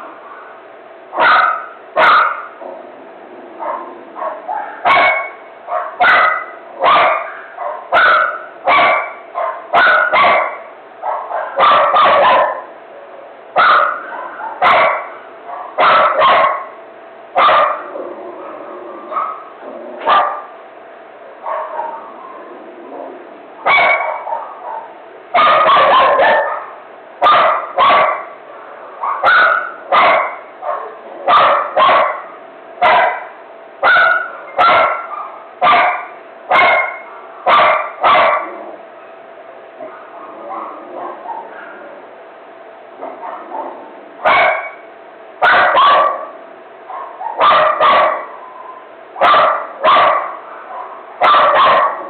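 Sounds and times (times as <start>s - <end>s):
dog barking: 1.2s - 2.8s, 3.6s - 12.7s, 13.6s - 16.8s, 17.4s - 20.5s, 21.4s - 22.3s, 23.6s - 38.7s, 39.8s - 41.9s, 43.0s - 44.8s, 45.4s - 52.0s.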